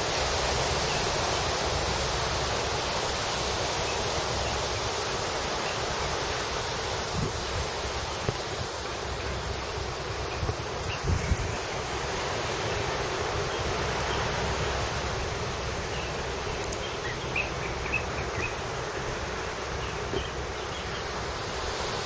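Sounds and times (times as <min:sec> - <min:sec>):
wind rumble on microphone: 0:00.0 - 0:22.0
insect chorus: 0:03.8 - 0:22.0.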